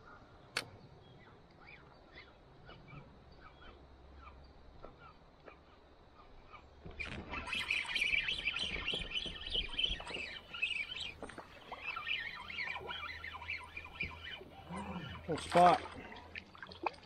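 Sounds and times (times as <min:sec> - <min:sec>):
birds chirping and chattering: 0:00.0 - 0:16.4.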